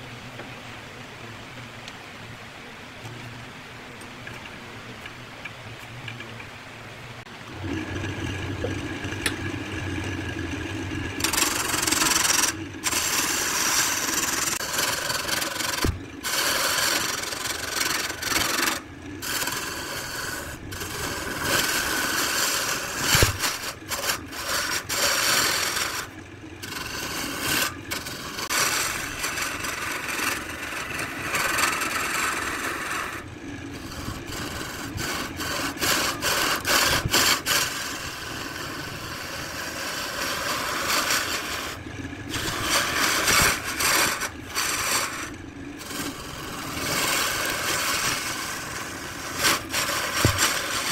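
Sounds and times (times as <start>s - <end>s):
lathe gouge scraping: 7.5s - 50.9s.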